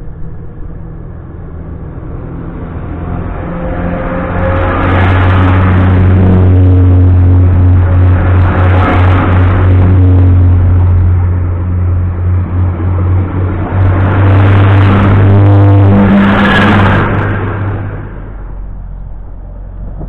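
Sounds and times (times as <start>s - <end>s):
diesel engines humming: 0.0s - 20.0s
train wheels rumbling: 0.0s - 20.0s.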